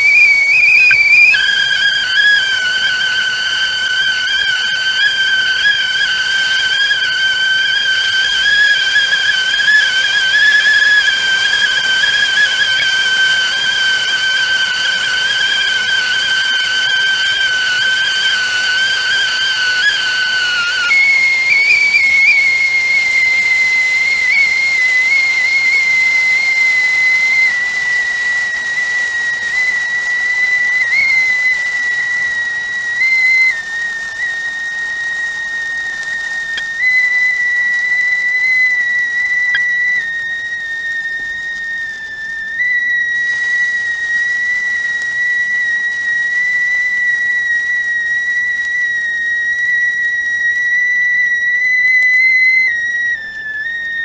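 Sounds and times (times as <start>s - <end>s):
hissing steam: 0.0s - 54.0s
tea kettle whistling: 0.0s - 54.0s.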